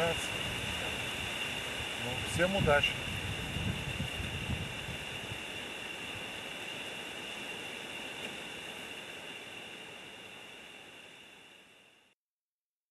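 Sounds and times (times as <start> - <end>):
steady outdoor hiss: 0.0 - 12.2.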